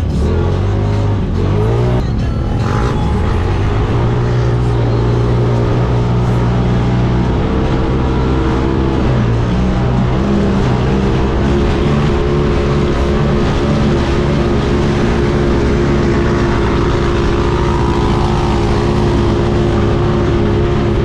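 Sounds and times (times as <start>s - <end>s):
vehicle engine pulling hard: 0.0s - 21.0s.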